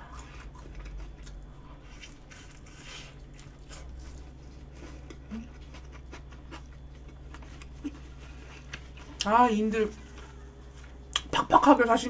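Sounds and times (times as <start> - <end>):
chewing and handling food: 0.0 - 9.4, 10.0 - 11.3
low hum: 0.0 - 12.0.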